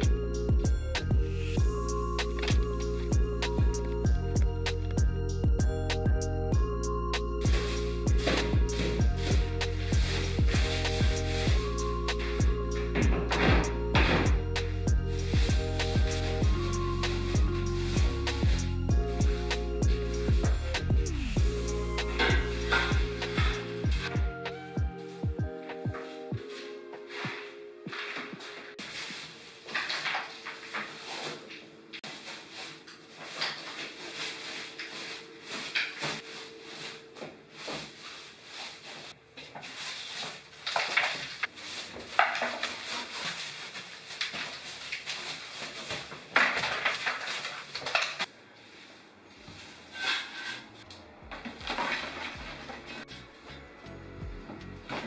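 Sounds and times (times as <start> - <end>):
broom brushing and scraping walls: 7.2 - 53.7.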